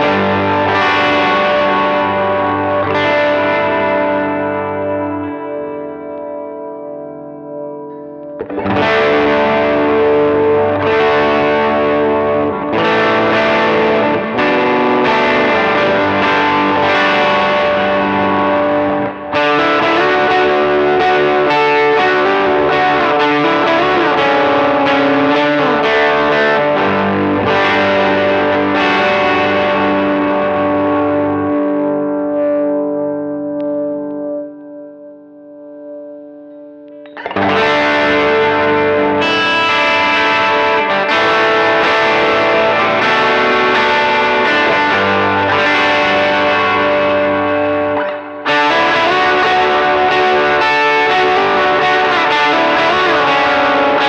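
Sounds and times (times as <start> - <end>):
bent guitar notes: 0.0 - 54.0
distorted electric guitar chords: 0.0 - 54.0.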